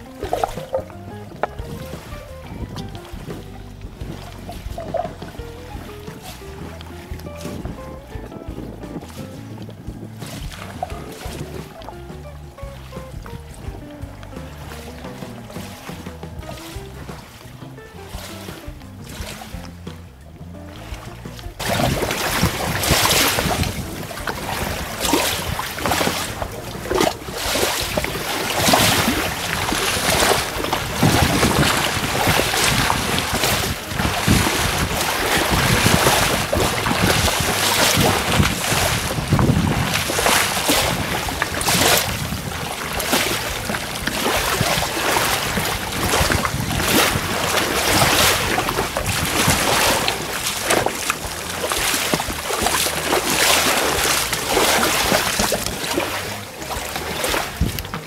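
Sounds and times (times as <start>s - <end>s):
small waves lapping against pier: 0.0s - 58.0s
wind buffeting microphone: 0.0s - 58.0s.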